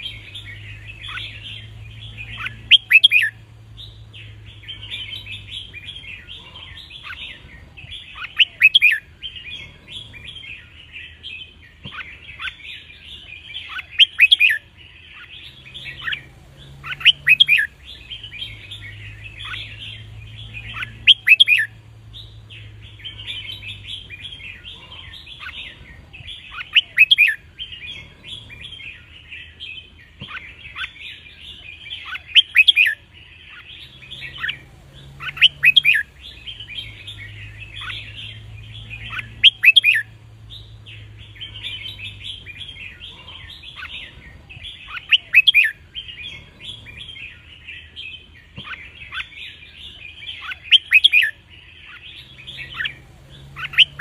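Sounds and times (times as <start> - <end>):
birds twittering: 0.0 - 54.0
loud bird song phrase: 0.0 - 54.0.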